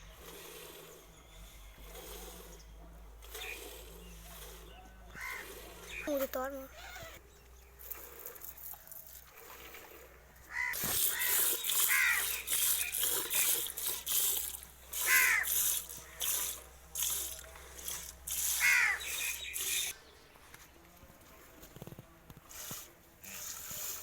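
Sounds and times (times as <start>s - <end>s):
milk squirting into a pail: 0.0s - 6.2s, 7.8s - 20.0s, 21.7s - 24.0s.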